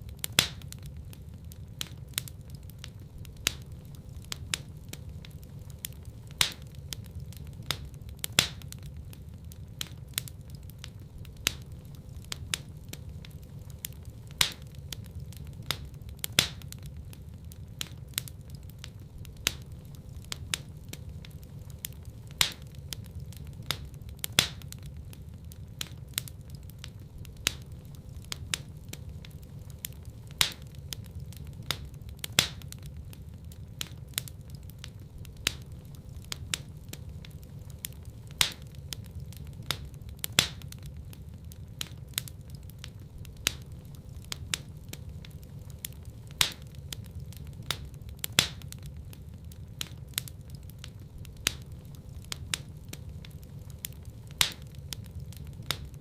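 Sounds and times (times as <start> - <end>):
low steady rumble: 0.0 - 56.0
wood fire crackling and popping: 0.0 - 56.0.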